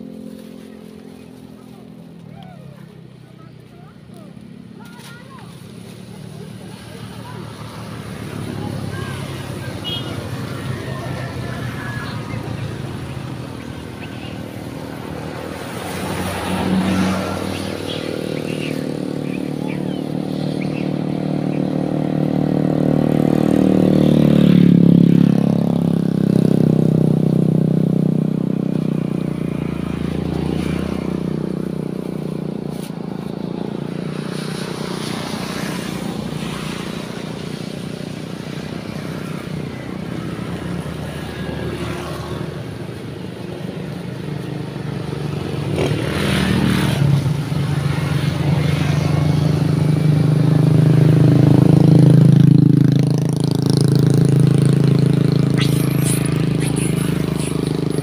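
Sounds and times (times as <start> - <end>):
motorcycles riding past: 0.0 - 58.0.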